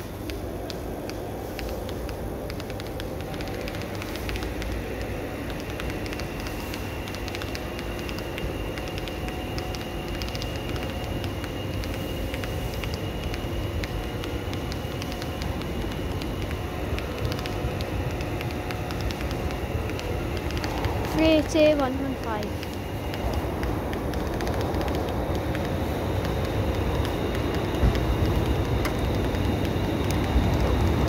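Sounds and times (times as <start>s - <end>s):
diesel train engine rumbling: 0.0s - 31.0s
train wheels clicking: 0.0s - 31.0s.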